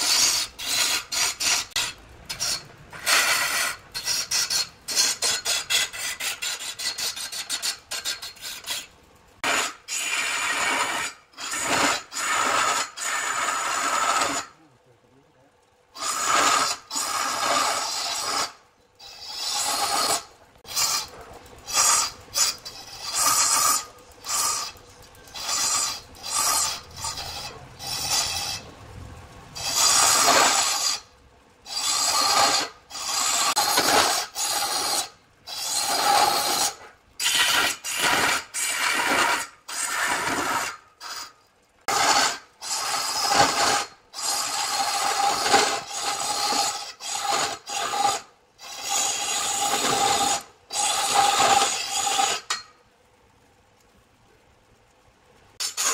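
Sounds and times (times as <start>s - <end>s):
hand tool scraping wood: 0.0s - 14.6s, 16.0s - 28.7s, 29.6s - 31.0s, 31.7s - 52.7s, 55.6s - 55.9s.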